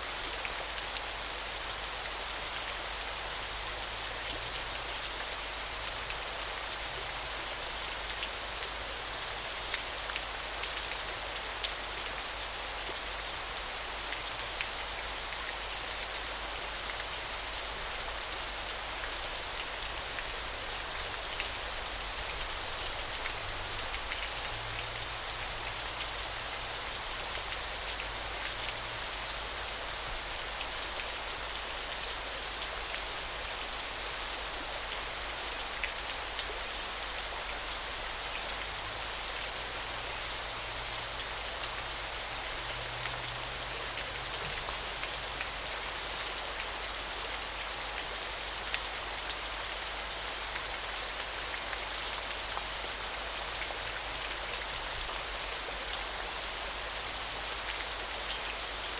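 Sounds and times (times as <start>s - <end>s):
running water hiss: 0.0s - 58.9s.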